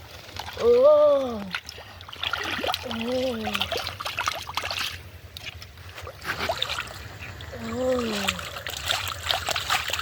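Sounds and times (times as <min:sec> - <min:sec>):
water splashing and dripping: 0:00.0 - 0:10.0.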